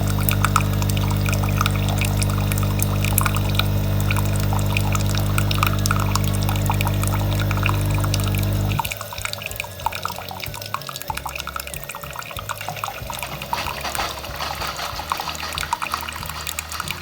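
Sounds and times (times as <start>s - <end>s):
coffee machine humming: 0.0s - 17.0s
water trickling into a cup: 0.0s - 17.0s.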